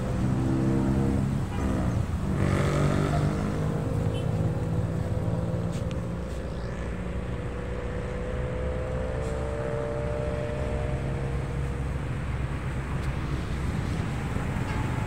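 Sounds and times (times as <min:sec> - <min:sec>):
vehicle engines rumbling: 0:00.0 - 0:15.0.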